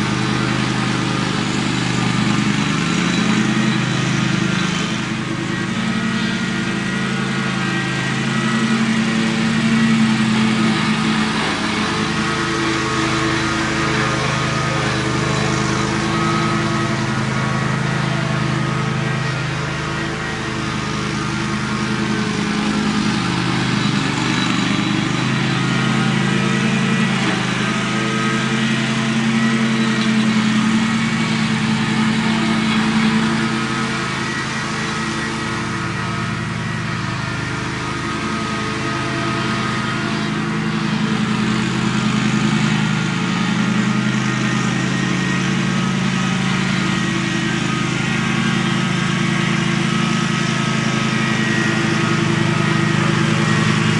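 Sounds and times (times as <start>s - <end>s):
ride-on lawn mower engine: 0.0s - 53.9s.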